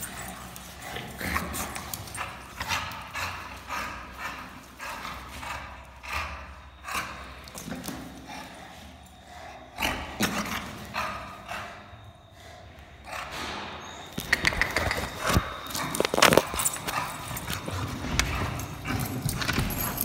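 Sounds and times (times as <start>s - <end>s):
dog panting heavily: 0.0s - 13.7s, 15.2s - 20.0s.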